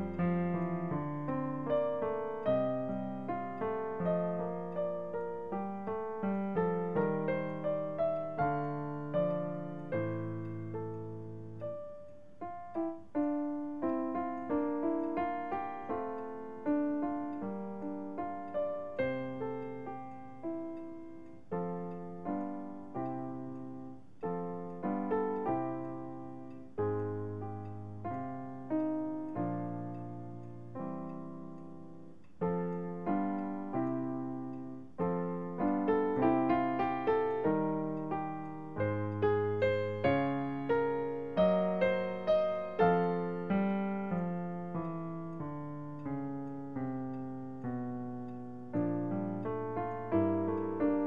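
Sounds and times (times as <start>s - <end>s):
gentle solo piano melody: 0.0s - 51.0s.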